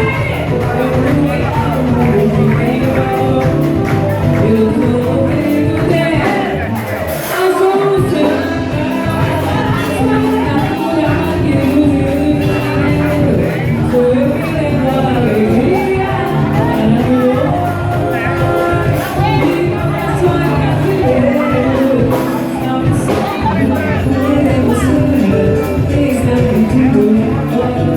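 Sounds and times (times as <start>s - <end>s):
live band music with singer: 0.0s - 27.9s.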